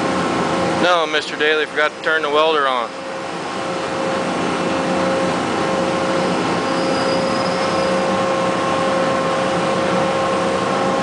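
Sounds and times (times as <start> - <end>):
cooling fan noise: 0.0 - 11.0
electrical hum: 0.0 - 11.0.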